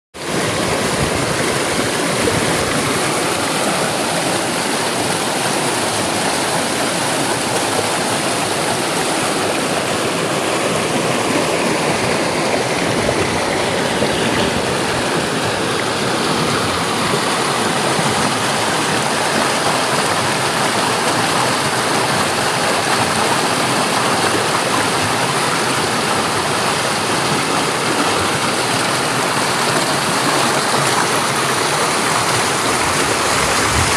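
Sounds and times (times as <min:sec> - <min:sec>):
running water rushing: 0:00.2 - 0:33.9.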